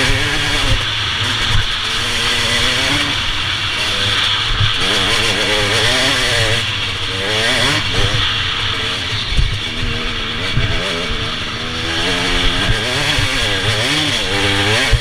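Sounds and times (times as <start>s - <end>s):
motorcycle engine revving: 0.0s - 15.0s
wind noise: 0.0s - 15.0s.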